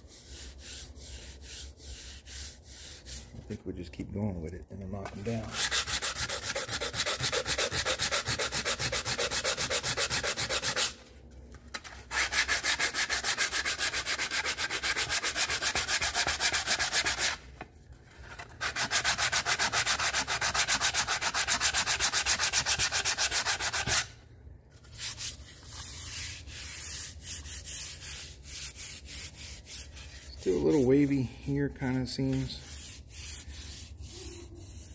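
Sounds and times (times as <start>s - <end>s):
sandpaper block rubbing metal: 0.0s - 3.4s, 5.2s - 11.0s, 12.1s - 17.4s, 18.6s - 24.1s, 24.9s - 34.9s.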